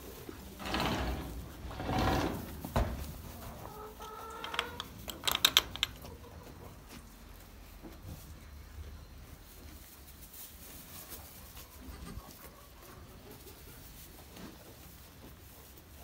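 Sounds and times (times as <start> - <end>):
barn rustling: 0.0 - 16.0.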